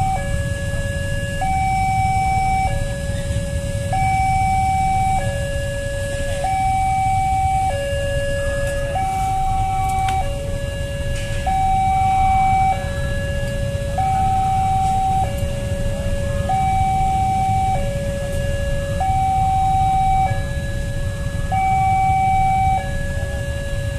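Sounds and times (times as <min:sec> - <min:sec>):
idling cars and motorbikes: 0:00.0 - 0:23.9
two-tone level crossing alarm: 0:00.0 - 0:23.9.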